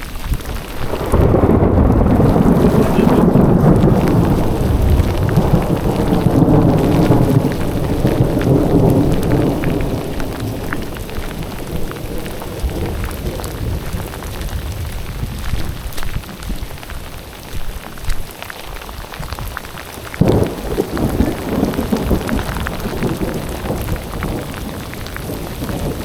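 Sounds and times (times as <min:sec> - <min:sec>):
thunder rumble: 0:00.0 - 0:17.2, 0:19.2 - 0:26.0
heavy rain pouring: 0:00.0 - 0:26.0
raindrop ticks: 0:00.0 - 0:26.0.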